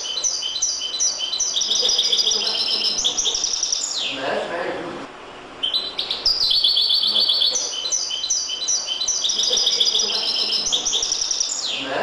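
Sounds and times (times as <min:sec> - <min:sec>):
goldfinch singing trills: 0:00.0 - 0:04.2, 0:05.6 - 0:11.8.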